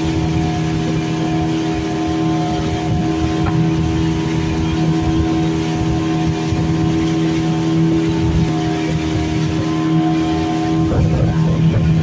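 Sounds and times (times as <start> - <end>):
speedboat engine drone: 0.0 - 12.0
water rushing past hull: 0.0 - 12.0.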